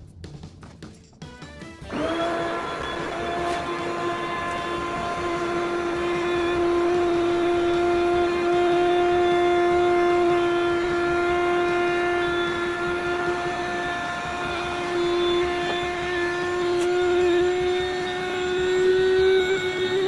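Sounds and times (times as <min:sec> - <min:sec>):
electric air pump motor hum: 0:01.8 - 0:20.0.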